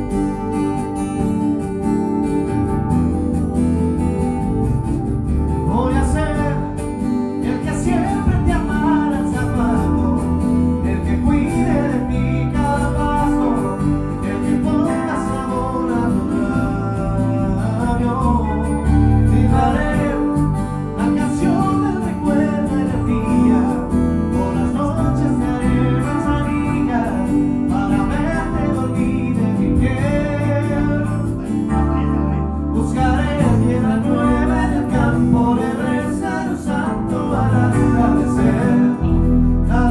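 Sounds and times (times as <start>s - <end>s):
band playing: 0.0s - 39.9s
guitar: 0.0s - 39.9s
person singing: 5.5s - 39.9s.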